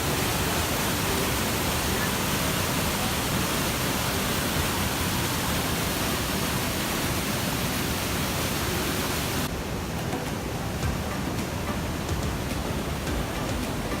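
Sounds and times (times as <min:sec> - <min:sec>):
waterfall roar: 0:00.0 - 0:14.0.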